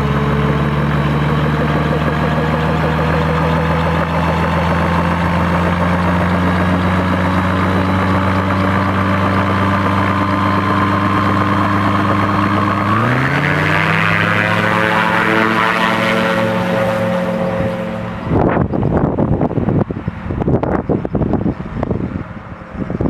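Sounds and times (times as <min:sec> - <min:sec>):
aircraft engine and propeller: 0:00.0 - 0:23.0.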